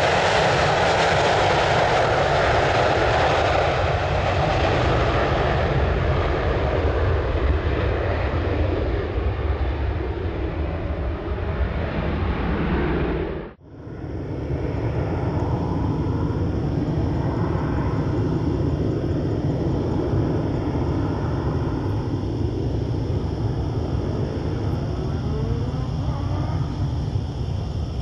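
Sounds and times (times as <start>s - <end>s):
distant jet engines rumbling: 0.0s - 28.0s.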